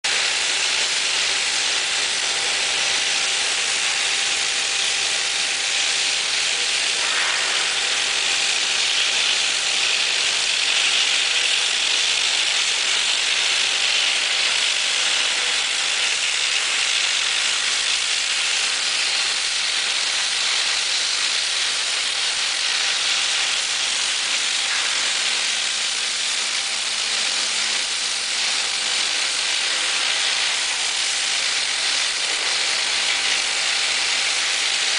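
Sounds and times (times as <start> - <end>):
cutting torch jets hissing: 0.1 - 34.9.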